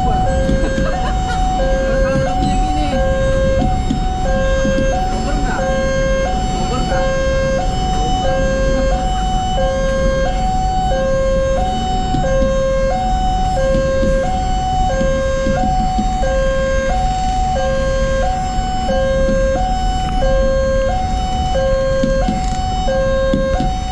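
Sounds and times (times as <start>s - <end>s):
level crossing two-tone alarm: 0.0s - 23.9s
low traffic rumble: 0.0s - 23.9s.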